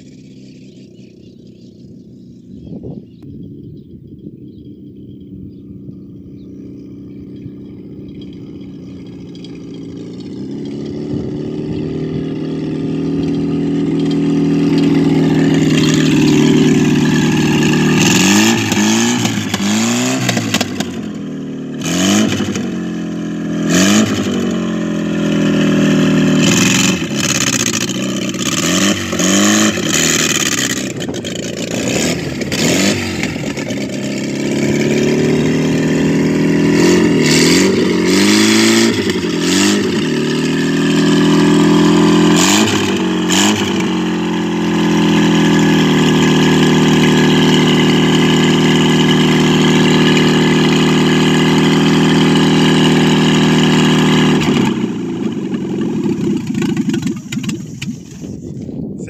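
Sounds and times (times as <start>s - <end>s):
engine revving without exhaust: 0.0s - 59.0s
exhaust pops and crackles: 7.3s - 22.7s, 25.3s - 59.0s.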